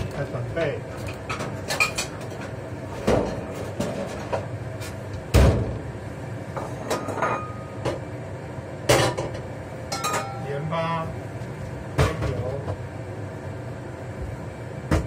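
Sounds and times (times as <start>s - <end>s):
range hood running: 0.0s - 15.0s.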